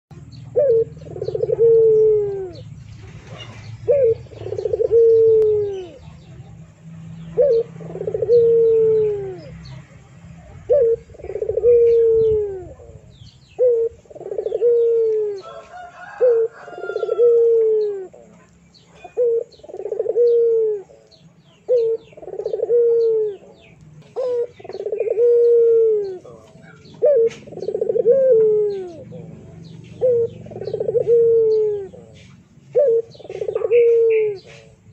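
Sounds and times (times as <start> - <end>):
small birds chirping faintly: 0.1 - 34.9.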